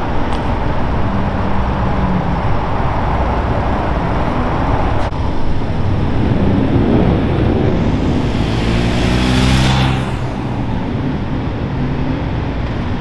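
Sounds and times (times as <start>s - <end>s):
engine rising in pitch: 0.0s - 12.6s
motorcycles and vehicles passing: 0.0s - 13.0s.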